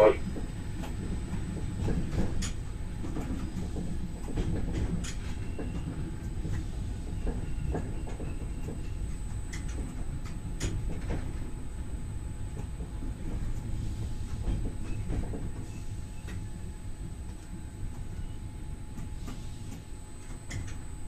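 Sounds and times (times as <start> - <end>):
train rolling low rumble: 0.0 - 21.0.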